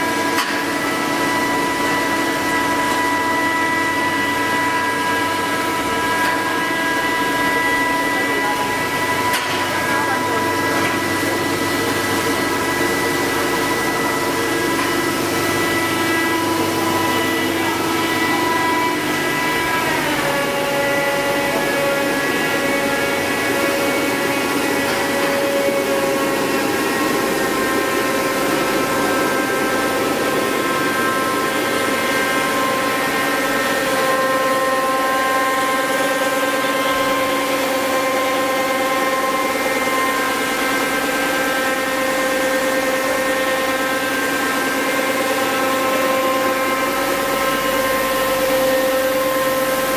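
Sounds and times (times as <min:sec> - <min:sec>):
machine drone with whining tones: 0:00.0 - 0:49.9.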